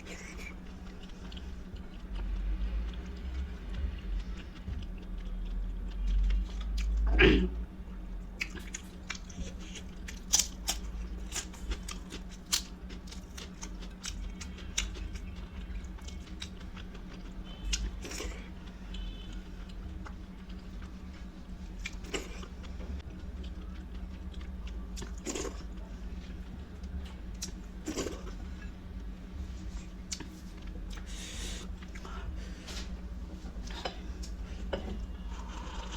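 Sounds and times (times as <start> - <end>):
person chewing and crunching food: 0.0 - 7.2, 8.4 - 35.9
steady low hum: 0.0 - 35.9.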